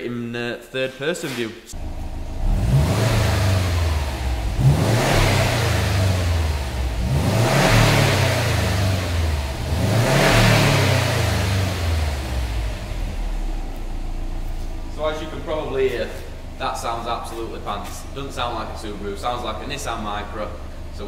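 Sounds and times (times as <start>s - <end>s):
car engine revving: 1.8s - 21.0s.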